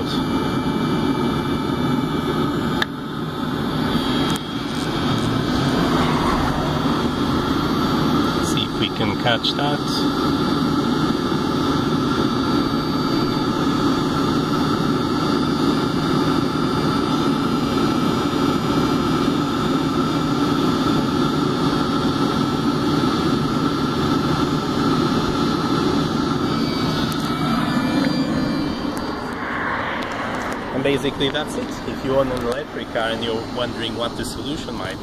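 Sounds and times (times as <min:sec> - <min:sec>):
blower hum: 0:00.0 - 0:35.0
heater combustion roar: 0:00.0 - 0:35.0
thin constant whine: 0:00.0 - 0:35.0.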